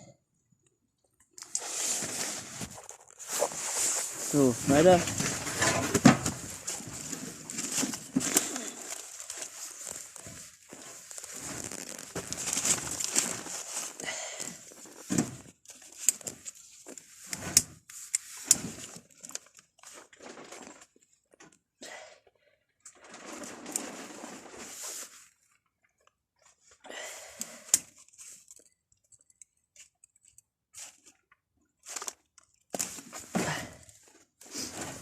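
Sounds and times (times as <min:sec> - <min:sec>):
rustling and crunching: 0:01.4 - 0:21.5, 0:22.9 - 0:26.7, 0:29.7 - 0:35.0.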